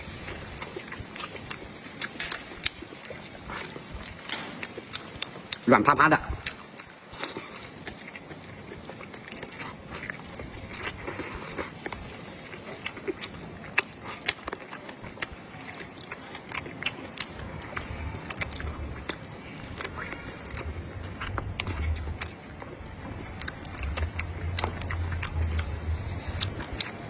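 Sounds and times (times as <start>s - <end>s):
person chewing close up: 0.0s - 27.0s.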